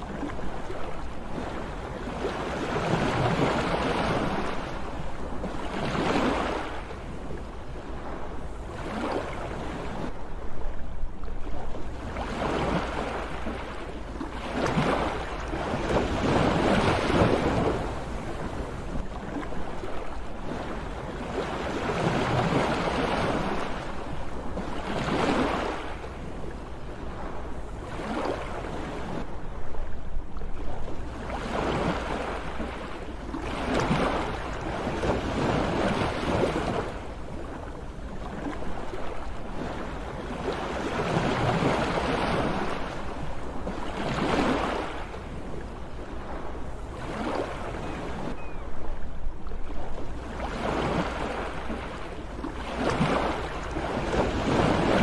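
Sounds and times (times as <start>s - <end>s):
sea waves breaking: 0.0s - 55.0s.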